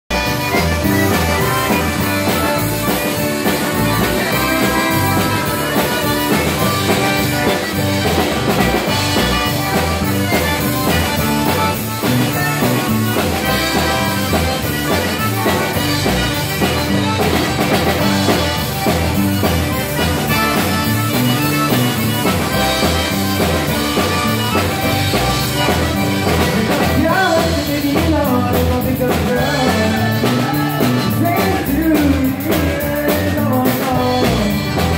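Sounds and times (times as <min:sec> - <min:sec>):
electric bass: 0:00.0 - 0:34.9
button accordion: 0:00.1 - 0:34.9
drum kit: 0:00.1 - 0:34.9
pedal steel guitar: 0:00.1 - 0:34.9.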